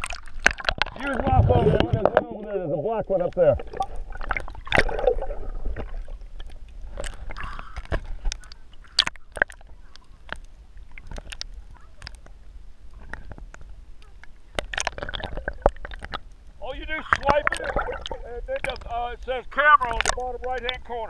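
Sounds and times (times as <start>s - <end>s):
water sloshing and gurgling: 0.0s - 21.0s.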